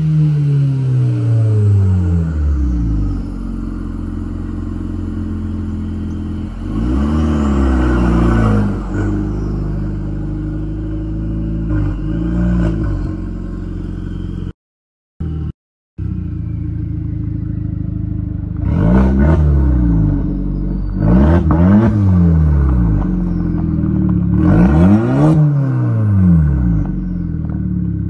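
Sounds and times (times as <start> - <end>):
loud raspy car exhaust: 0.0 - 14.5, 15.2 - 28.0.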